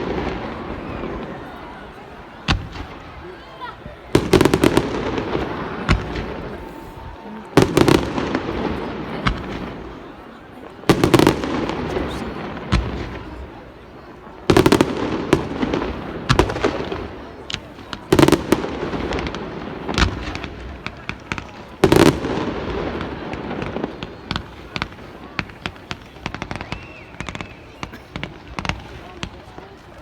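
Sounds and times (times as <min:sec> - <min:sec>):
fireworks crackling pops: 0:00.0 - 0:30.0.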